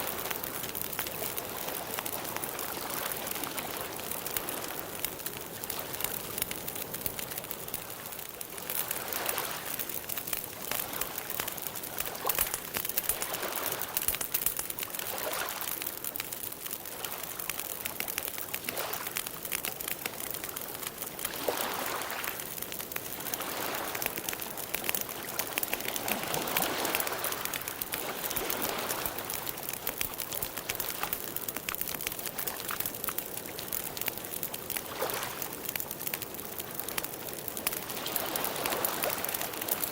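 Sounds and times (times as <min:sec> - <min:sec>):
campfire crackling and popping: 0:00.0 - 0:39.9
water lapping against shore: 0:00.0 - 0:39.9.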